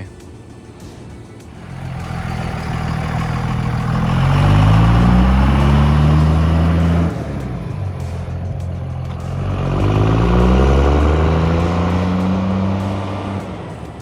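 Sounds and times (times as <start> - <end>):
vehicle engine accelerating: 0.8 - 14.0.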